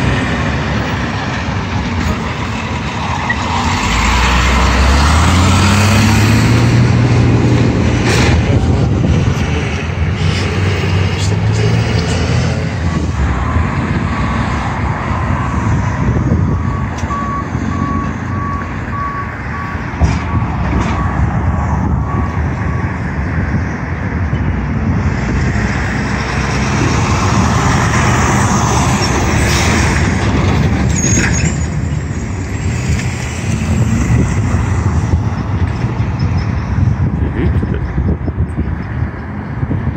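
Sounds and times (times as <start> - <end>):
freight train rumble: 0.0 - 14.1, 19.8 - 39.9.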